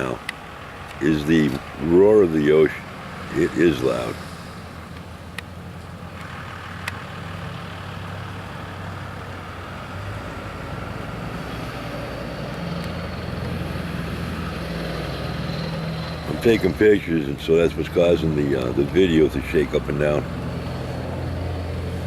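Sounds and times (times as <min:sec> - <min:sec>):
motor vehicle engine hum: 0:00.0 - 0:22.0.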